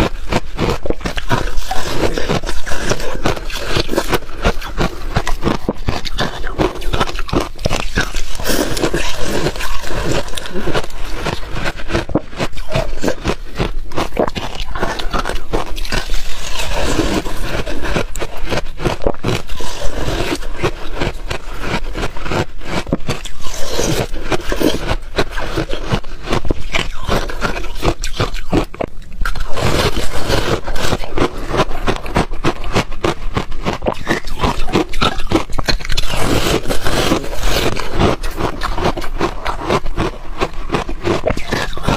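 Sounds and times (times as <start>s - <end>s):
ice crunching being chewed: 0.0s - 41.9s.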